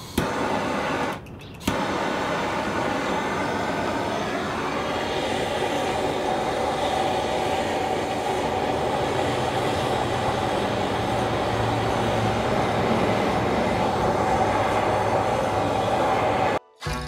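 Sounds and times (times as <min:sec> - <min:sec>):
gas torch flame hissing: 0:00.0 - 0:16.6.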